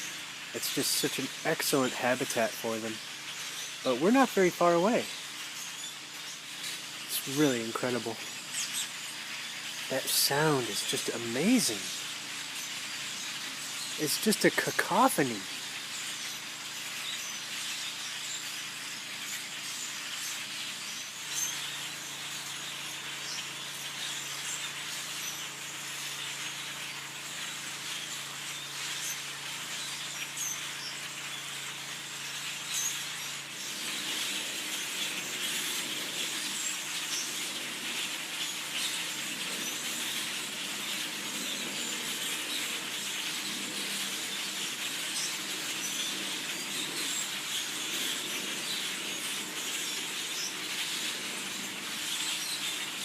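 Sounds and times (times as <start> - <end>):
flock of birds chirping: 0.0 - 53.0.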